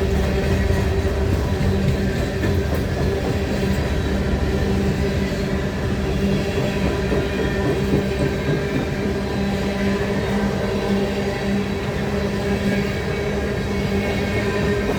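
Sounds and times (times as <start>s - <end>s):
train wheels rumbling: 0.0s - 14.9s.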